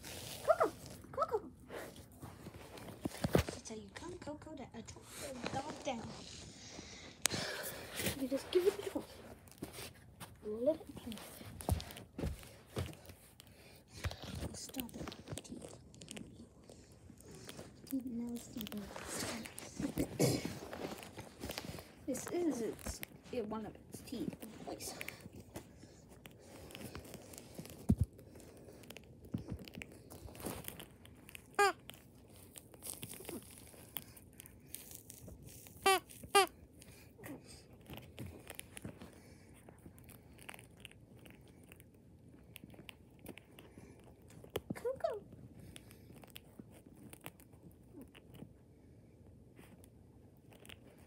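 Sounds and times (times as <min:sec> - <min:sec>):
puppy gnawing a chew toy: 0:00.0 - 0:51.0.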